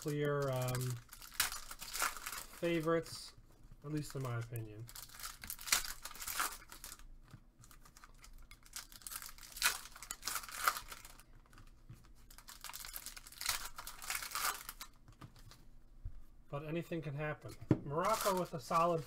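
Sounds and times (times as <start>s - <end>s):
foil wrappers tearing and crinkling: 0.0s - 3.1s, 3.9s - 15.5s, 18.0s - 19.0s.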